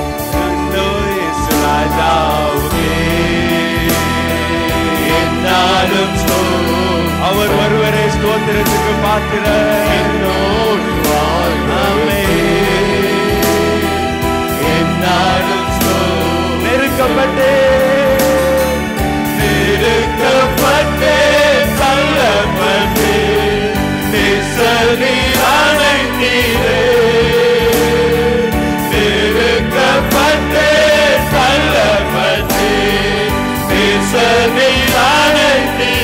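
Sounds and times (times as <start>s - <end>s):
instrumental backing with steady beat: 0.0s - 36.0s
worship song singing: 0.0s - 36.0s.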